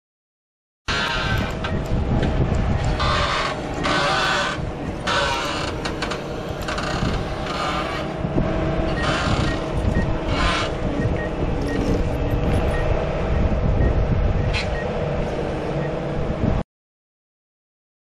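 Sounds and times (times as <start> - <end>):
diesel engine running under load: 0.9 - 16.6.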